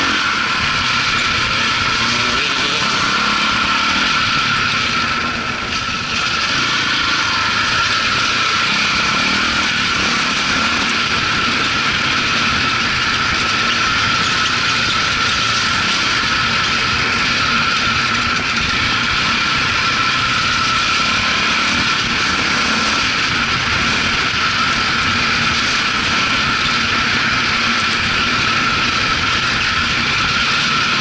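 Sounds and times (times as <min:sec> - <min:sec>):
dirt bike engine running: 0:00.0 - 0:31.0.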